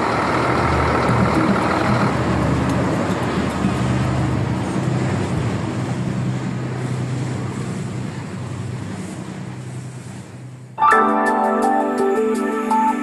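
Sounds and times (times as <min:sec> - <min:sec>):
road noise: 0:00.0 - 0:13.0
truck engine humming: 0:00.0 - 0:13.0.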